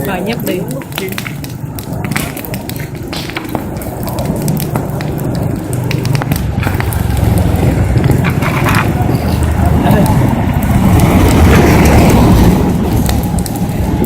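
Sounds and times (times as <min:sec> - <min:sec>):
low steady rumble: 0:00.0 - 0:14.0
wood fire crackling: 0:00.0 - 0:14.0.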